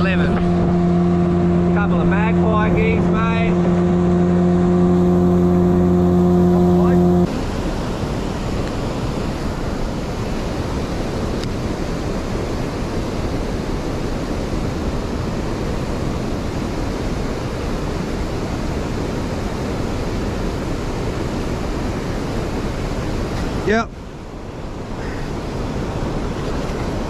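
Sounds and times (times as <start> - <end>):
moving water: 0.0 - 27.0.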